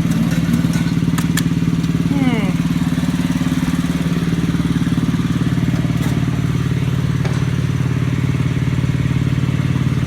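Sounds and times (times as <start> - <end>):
small tractor engine idling: 0.0 - 10.0.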